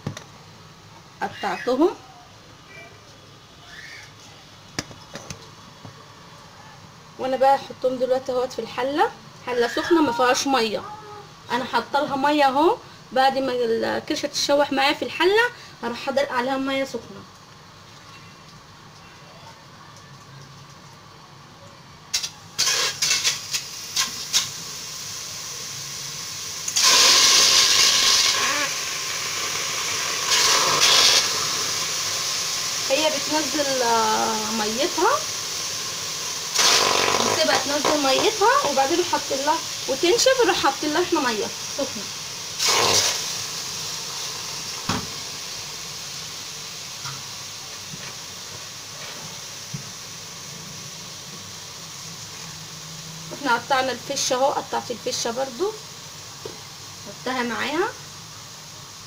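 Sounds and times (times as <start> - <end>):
meat sizzling in a pot: 0.0 - 2.0, 3.6 - 59.0.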